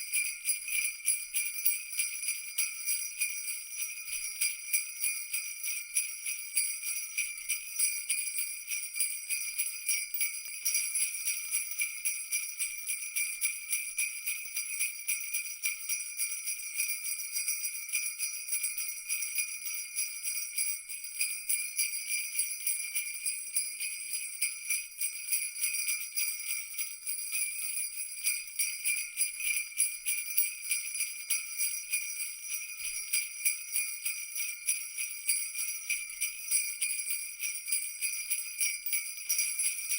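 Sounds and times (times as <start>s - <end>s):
jingle bells shaken: 0.0s - 39.9s.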